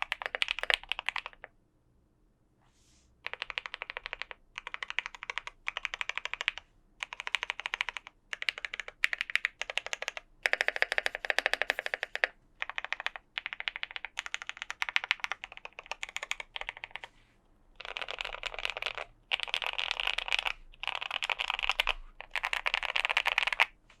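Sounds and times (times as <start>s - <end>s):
mechanical keyboard typing: 0.0s - 1.5s, 3.2s - 17.1s, 17.8s - 23.7s.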